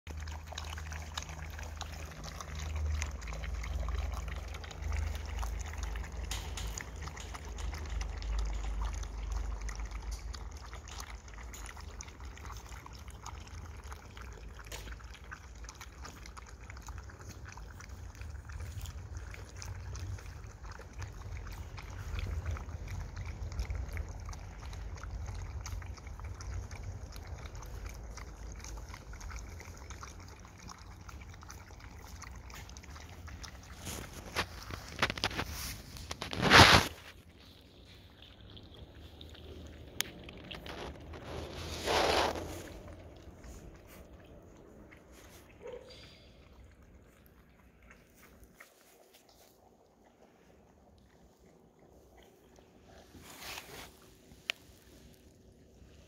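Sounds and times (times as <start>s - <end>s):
puppies lapping from metal pan: 0.1s - 56.0s.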